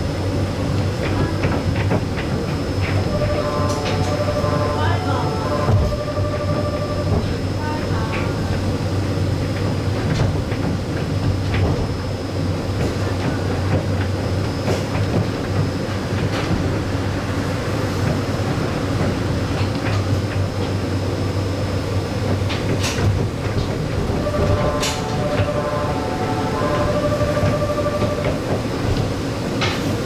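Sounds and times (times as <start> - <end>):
monorail motors droning: 0.0 - 30.0.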